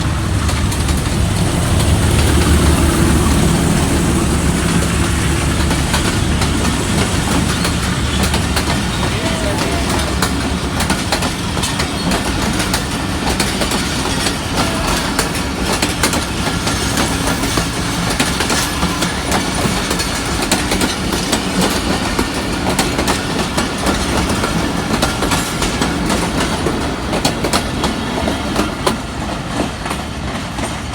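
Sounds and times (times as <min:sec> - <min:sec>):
diesel train rumble: 0:00.0 - 0:30.9
wheels clicking over rail joints: 0:00.0 - 0:30.9.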